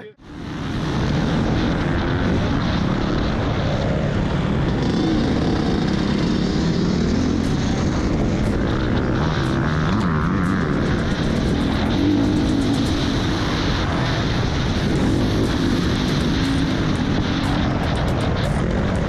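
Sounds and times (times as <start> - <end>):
motocross bike engine revving: 0.2 - 19.0.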